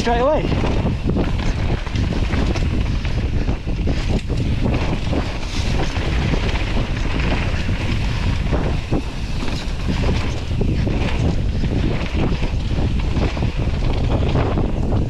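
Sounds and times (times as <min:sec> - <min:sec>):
bike knocks and rattles: 0:00.0 - 0:15.0
bike tyre rumble: 0:00.0 - 0:15.0
wind rushing over microphone: 0:00.0 - 0:15.0.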